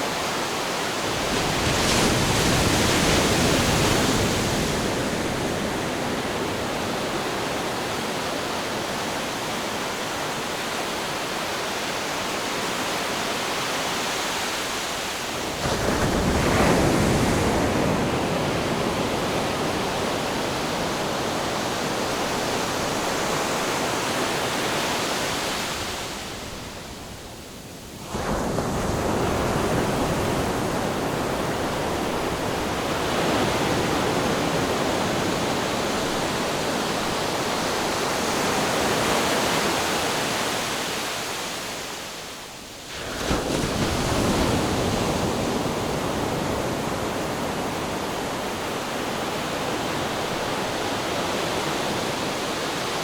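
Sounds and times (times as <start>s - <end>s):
ocean waves crashing on shore: 0.0s - 53.0s.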